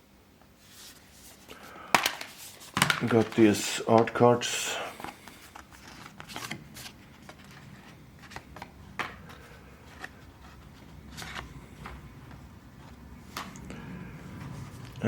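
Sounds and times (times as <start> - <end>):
paper cards rustling: 0.6 - 13.6.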